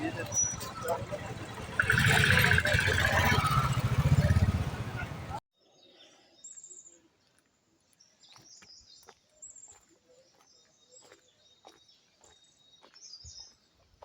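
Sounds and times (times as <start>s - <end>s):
birds chirping: 0.0s - 7.1s, 8.0s - 14.0s.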